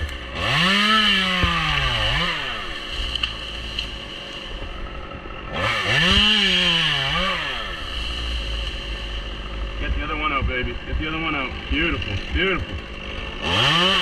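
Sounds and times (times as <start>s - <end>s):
chainsaw revving and cutting wood: 0.0s - 14.0s.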